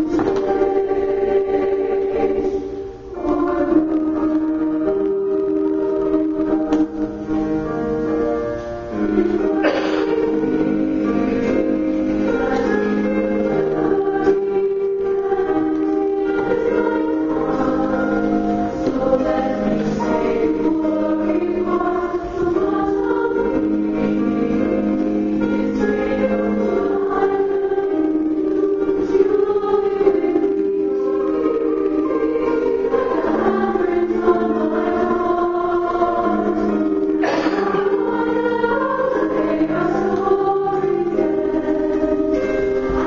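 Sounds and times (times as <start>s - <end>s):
choir singing sacred song: 0.0s - 7.8s, 8.6s - 43.0s
instrumental accompaniment: 0.0s - 43.0s.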